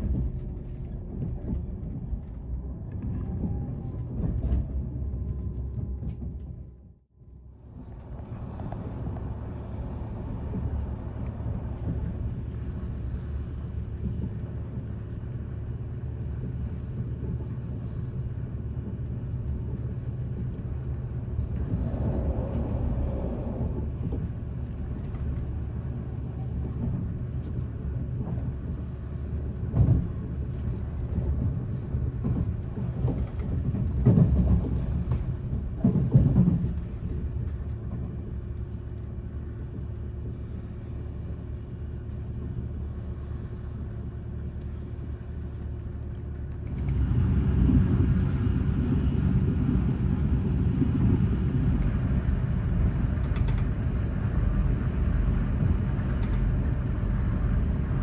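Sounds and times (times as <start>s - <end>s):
low engine hum: 0.0s - 58.0s
train wheels rumbling on rail: 0.0s - 58.0s.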